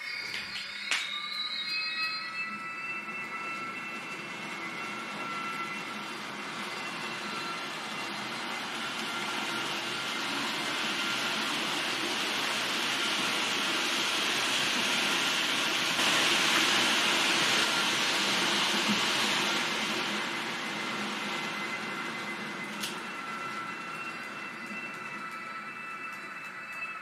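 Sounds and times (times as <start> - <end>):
faint steady whine: 0.0 - 27.0
model train wheels rattling on rails: 0.0 - 27.0.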